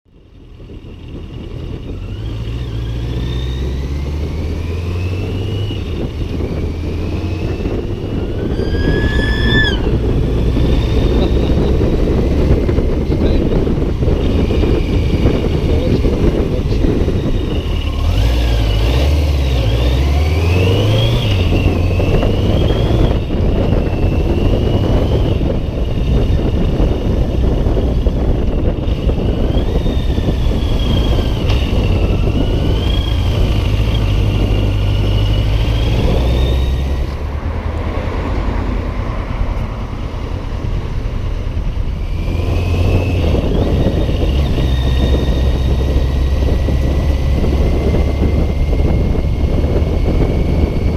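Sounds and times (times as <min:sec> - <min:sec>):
motorcycle engine revving: 0:00.2 - 0:50.9
wind buffeting: 0:00.5 - 0:50.9.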